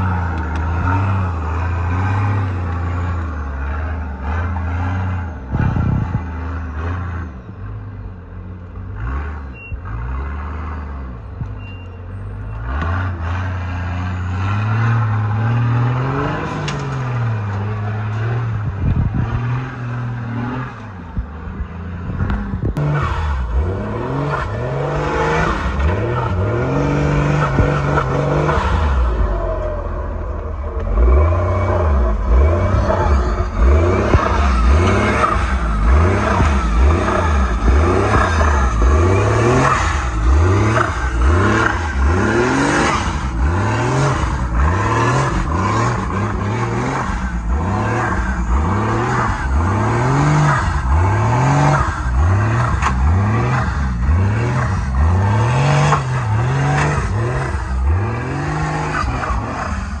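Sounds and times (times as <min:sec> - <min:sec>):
truck engine revving: 0:00.0 - 1:00.0.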